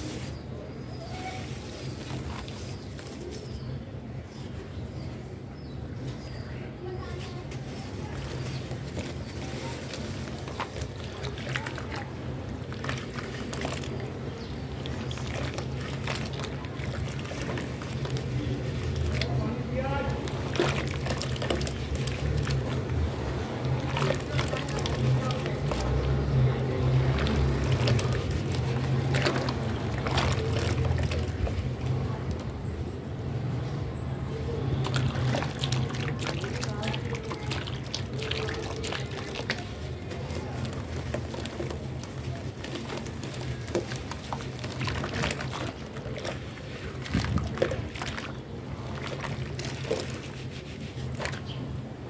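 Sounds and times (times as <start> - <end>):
wet cement squishing: 0.0 - 3.8, 7.1 - 52.0.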